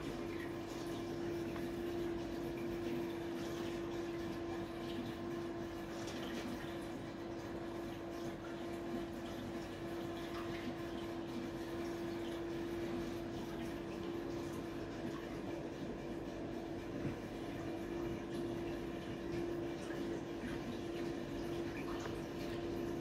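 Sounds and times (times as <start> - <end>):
aquarium pump humming: 0.0 - 23.0
moving water: 0.0 - 23.0.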